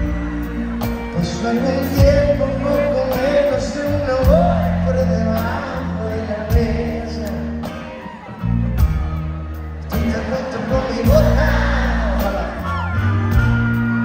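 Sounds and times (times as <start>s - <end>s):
live band music: 0.0s - 14.0s
person singing: 0.0s - 14.0s.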